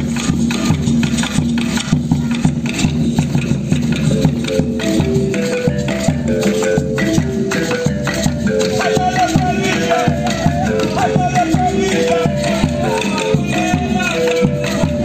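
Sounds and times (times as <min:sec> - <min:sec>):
marimba melody: 0:00.0 - 0:15.0.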